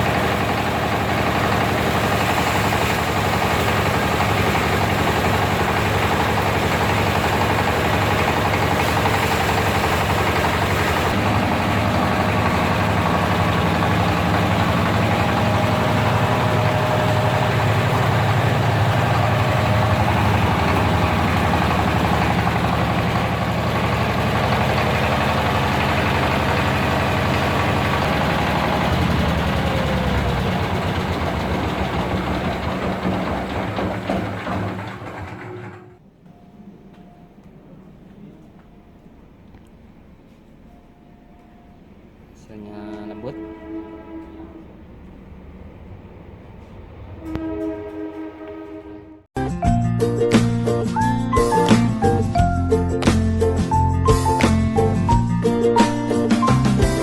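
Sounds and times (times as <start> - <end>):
mill machine hum: 0.0 - 49.3.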